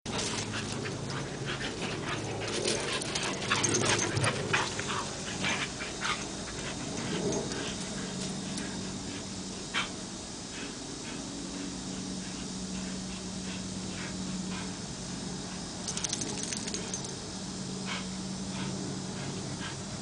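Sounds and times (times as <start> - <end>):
dog breathy sounds: 0.1 - 17.1, 17.8 - 20.0
faint low hum: 0.1 - 20.0.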